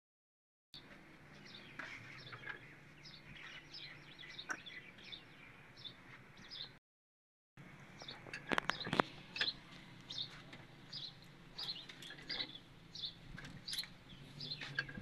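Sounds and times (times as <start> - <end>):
small birds chirping: 0.8 - 6.8, 7.8 - 15.0.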